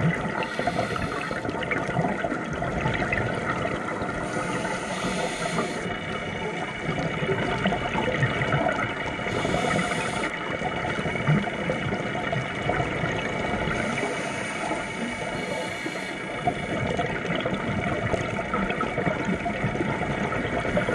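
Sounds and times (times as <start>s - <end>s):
underwater hiss with crackle: 0.0s - 20.9s.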